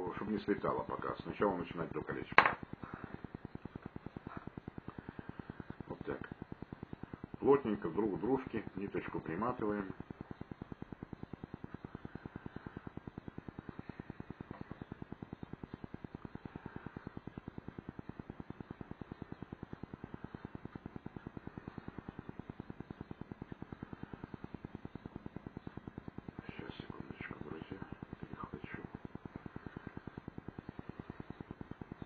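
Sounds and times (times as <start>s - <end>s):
rapid pulsing electrical buzz: 0.0s - 32.0s.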